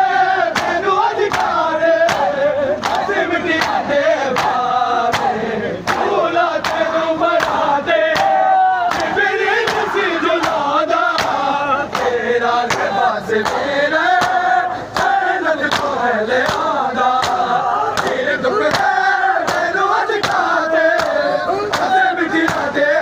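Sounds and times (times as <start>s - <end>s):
crowd of men chanting: 0.0s - 23.0s.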